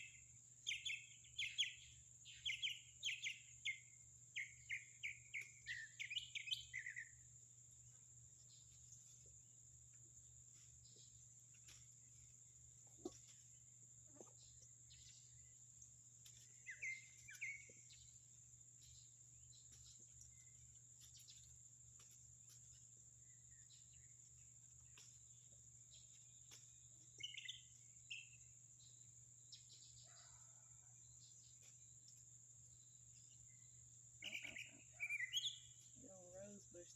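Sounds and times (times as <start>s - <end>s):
bird chirping: 0.0s - 36.9s.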